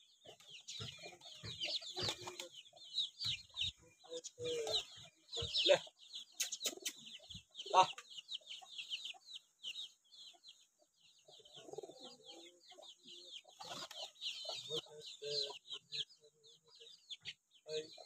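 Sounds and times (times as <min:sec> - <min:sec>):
chicks peeping: 0:00.0 - 0:18.0
hens clucking: 0:00.0 - 0:18.0.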